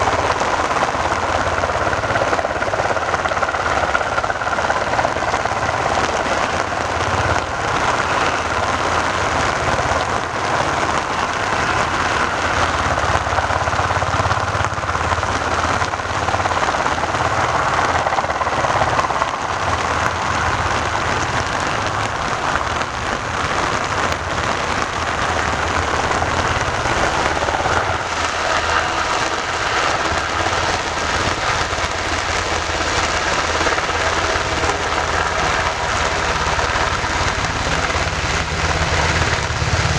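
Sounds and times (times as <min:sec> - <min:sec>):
helicopter turbines running: 0:00.0 - 0:39.9
rain falling: 0:00.0 - 0:39.9.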